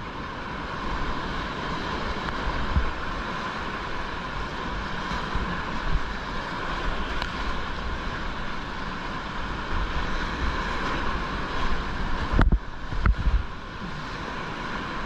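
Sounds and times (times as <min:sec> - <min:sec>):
water splashing over a boat: 0:00.0 - 0:15.0
whitewater rapids rushing: 0:00.0 - 0:15.0.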